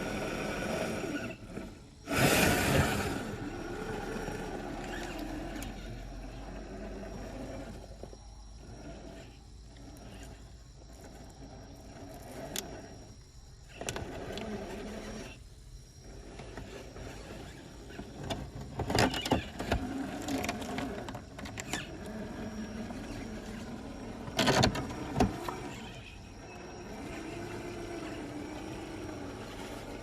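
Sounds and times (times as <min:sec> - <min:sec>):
toy car motor whining: 0:00.0 - 0:30.0.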